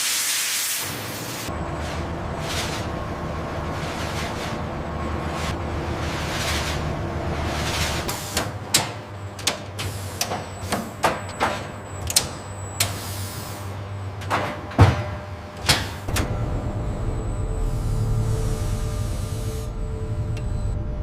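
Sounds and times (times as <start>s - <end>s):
mechanical hum: 0.7s - 21.0s.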